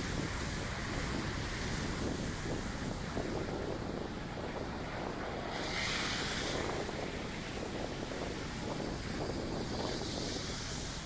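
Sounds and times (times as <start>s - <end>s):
rain hiss: 0.0s - 11.0s.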